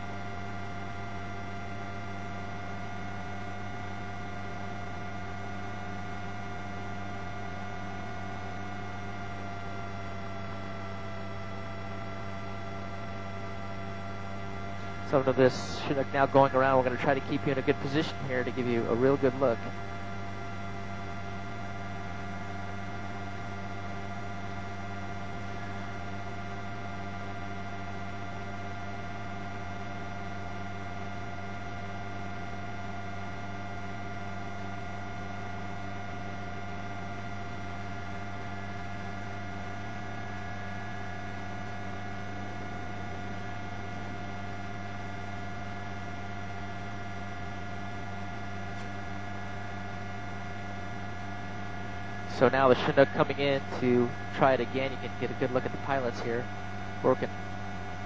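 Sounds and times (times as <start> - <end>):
helicopter turbine and rotor drone: 0.0 - 58.0
steady whining tones: 0.0 - 58.0.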